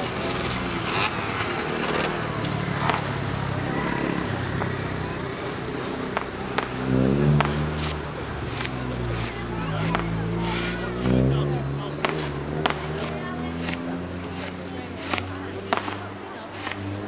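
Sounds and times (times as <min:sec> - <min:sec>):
fireworks bangs: 0:00.4 - 0:17.0.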